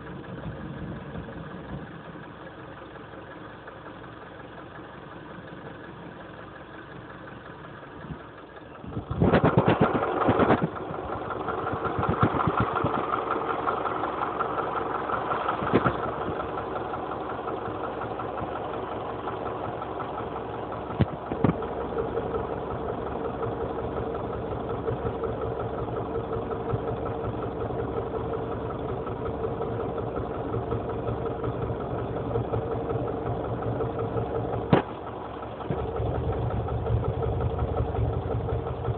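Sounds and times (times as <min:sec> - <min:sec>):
car engine knocking: 0:00.0 - 0:38.9.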